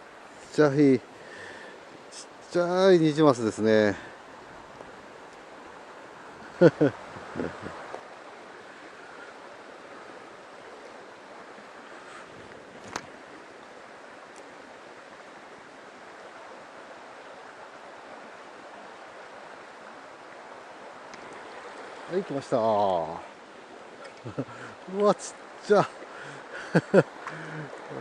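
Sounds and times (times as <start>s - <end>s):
mountain stream flowing: 0.0s - 28.0s.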